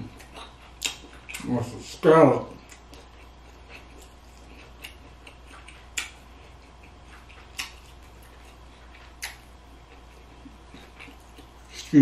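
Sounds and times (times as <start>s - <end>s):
chewing: 0.0s - 12.0s
low steady hum: 0.0s - 12.0s.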